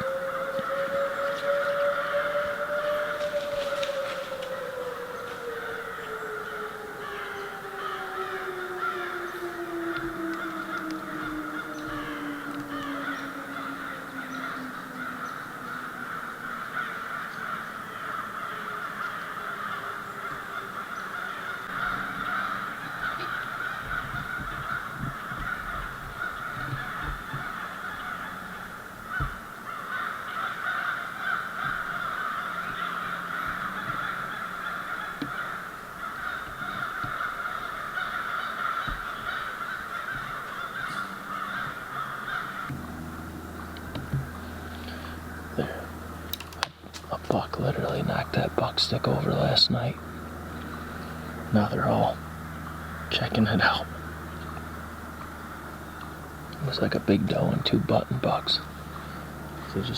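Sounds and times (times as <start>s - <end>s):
crows cawing: 0.0s - 59.9s
distant siren winding down: 0.0s - 59.9s.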